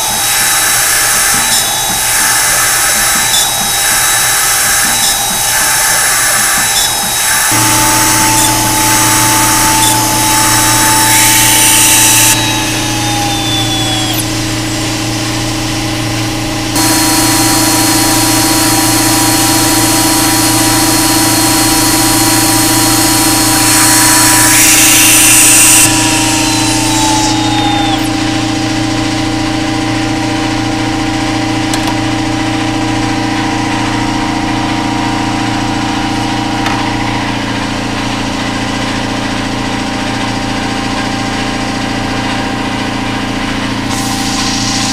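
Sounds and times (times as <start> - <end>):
low machine hum: 0.0 - 44.9
mill spindle whining: 0.0 - 44.9.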